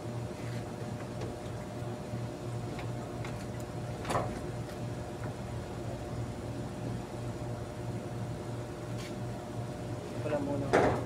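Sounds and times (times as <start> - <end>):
pulsing low machine hum: 0.0 - 10.1.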